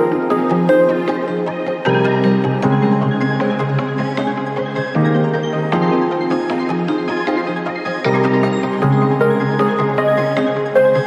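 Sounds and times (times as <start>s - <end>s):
gentle instrumental background music: 0.0s - 11.0s.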